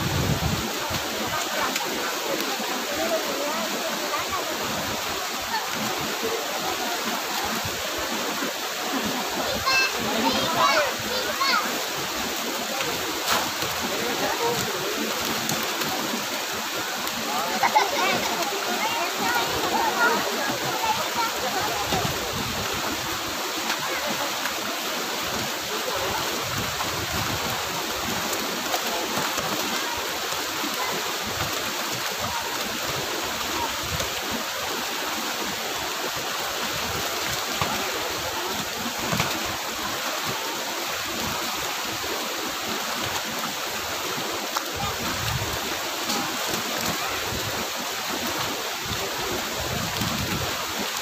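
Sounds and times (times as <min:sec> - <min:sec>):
water flowing: 0:00.0 - 0:51.0.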